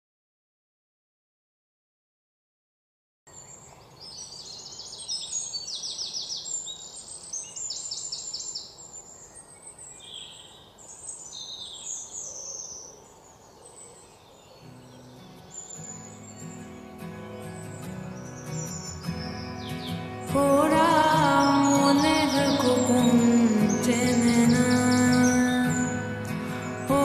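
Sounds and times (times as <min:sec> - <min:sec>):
background hiss: 0:03.3 - 0:27.0
birds chirping and trilling: 0:03.3 - 0:27.0.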